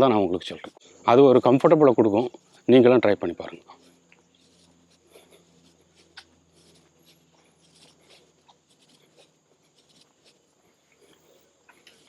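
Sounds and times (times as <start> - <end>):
faint ticks and scratches: 0.0 - 12.0.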